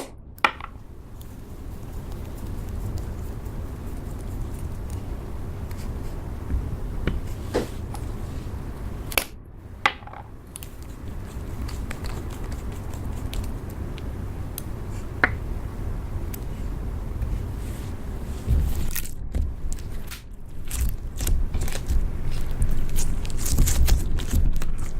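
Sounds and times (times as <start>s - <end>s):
steady low rumble: 0.1s - 24.9s.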